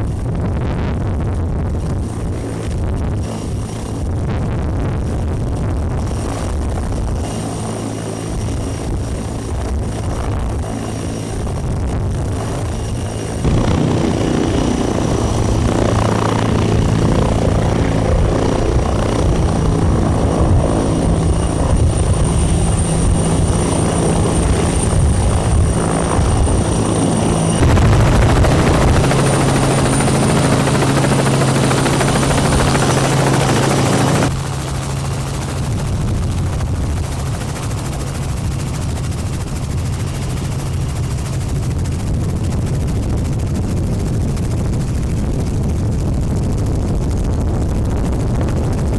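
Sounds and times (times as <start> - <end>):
high engine whine: 0.0 - 42.7
helicopter rotor noise: 0.0 - 48.9.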